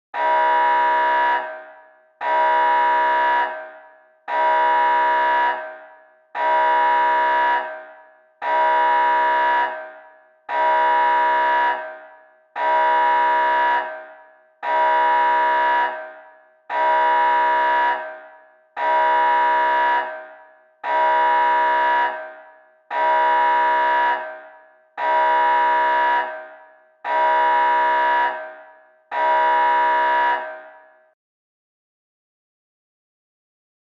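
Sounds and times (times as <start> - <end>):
alarm horn blasts: 0.2 - 31.0.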